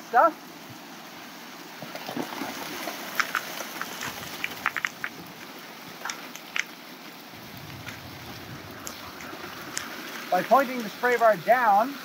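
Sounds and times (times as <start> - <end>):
water jetting over gravel: 0.0 - 12.0.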